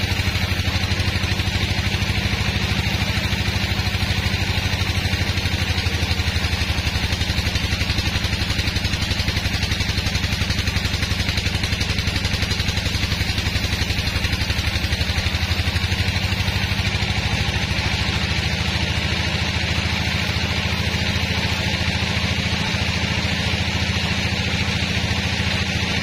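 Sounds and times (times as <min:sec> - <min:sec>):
band saw cutting log: 0:00.0 - 0:26.0
sawmill engine humming: 0:00.0 - 0:26.0.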